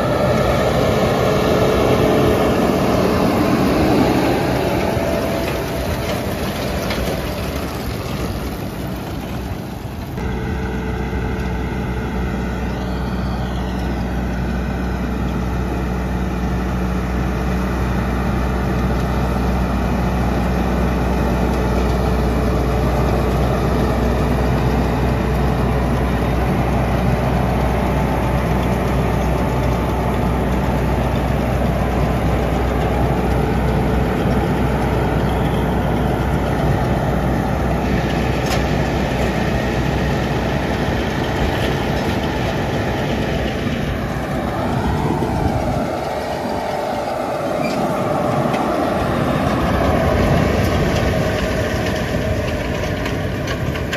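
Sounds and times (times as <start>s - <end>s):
round baler working: 0.0s - 53.9s
tractor diesel engine running: 0.0s - 53.9s.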